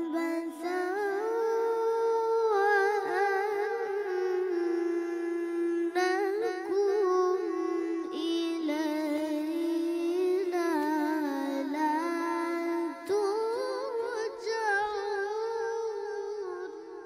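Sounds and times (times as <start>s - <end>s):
person chanting melodically: 0.0s - 17.0s.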